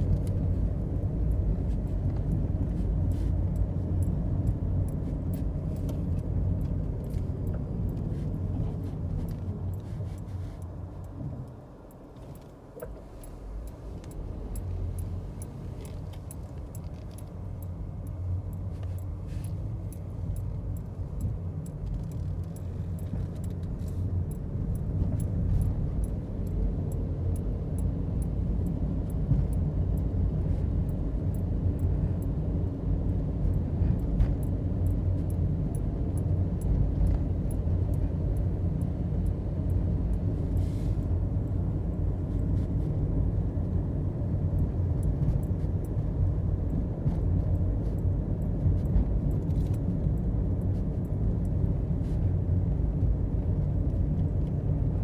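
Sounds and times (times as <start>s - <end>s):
engine and road noise rumble: 0.0s - 55.0s
faint regular ticking: 0.1s - 52.0s.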